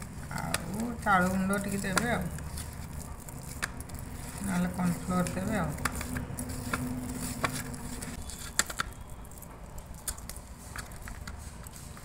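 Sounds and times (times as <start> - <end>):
hand kneading soft dough: 0.0 - 12.0.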